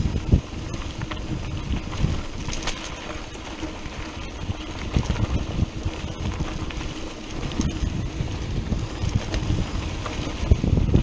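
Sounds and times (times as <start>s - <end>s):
bike tyres rumbling on dirt trail: 0.0s - 11.0s
wind buffeting microphone: 0.0s - 11.0s.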